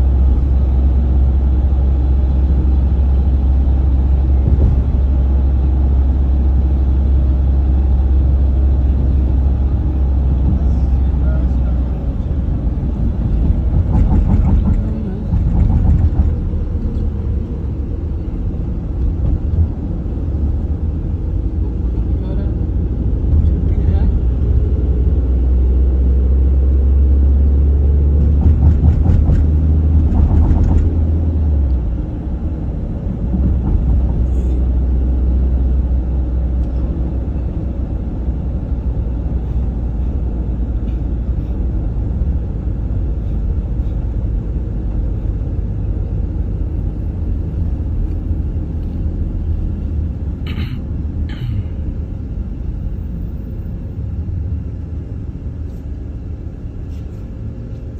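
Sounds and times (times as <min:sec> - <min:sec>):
road and engine rumble: 0:00.0 - 0:57.9.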